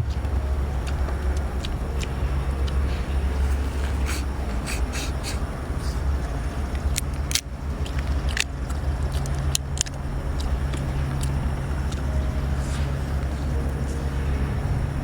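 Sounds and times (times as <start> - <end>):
crunchy biting and chewing: 0.0 - 14.8
steady low rumble: 0.0 - 15.0.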